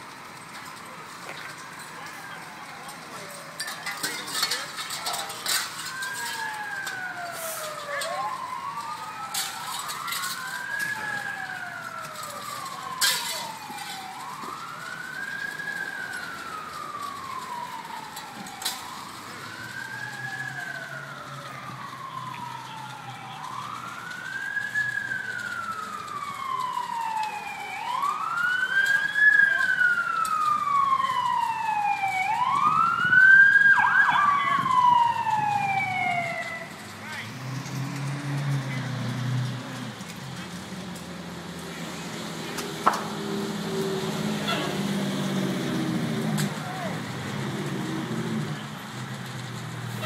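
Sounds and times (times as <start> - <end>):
emergency siren wailing: 0.0 - 50.0
fainter second siren: 0.4 - 50.0
higher siren: 0.4 - 50.0.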